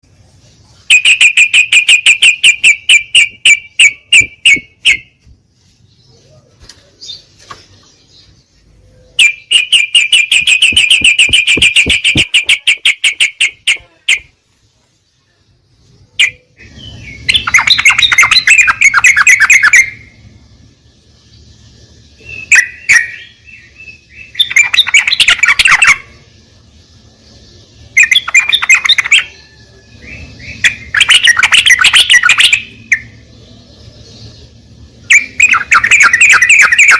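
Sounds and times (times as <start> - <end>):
bird song of sharp notes: 0.0 - 36.9.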